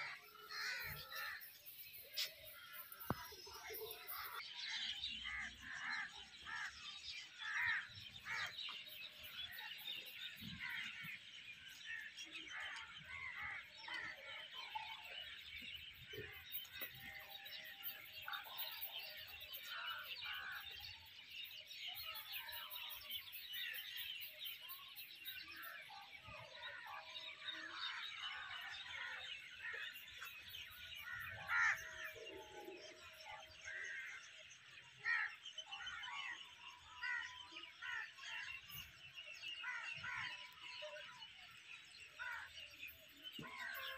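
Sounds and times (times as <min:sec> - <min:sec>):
birds chirping chorus: 0:00.0 - 0:43.9.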